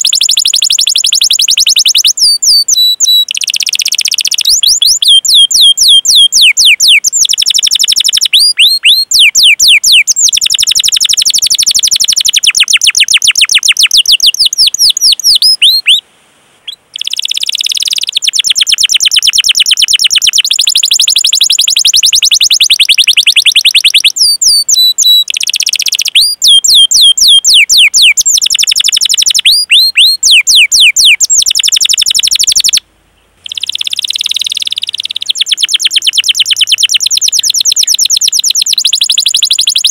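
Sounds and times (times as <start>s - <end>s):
canary trilling song: 0.0s - 16.0s, 16.6s - 32.8s, 33.4s - 39.9s.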